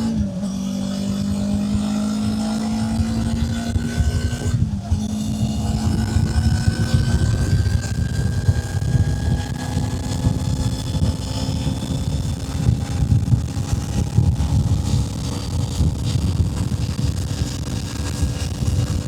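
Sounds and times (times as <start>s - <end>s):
motorcycle engine cruising: 0.0s - 19.0s
wind rumble on microphone: 0.0s - 19.0s.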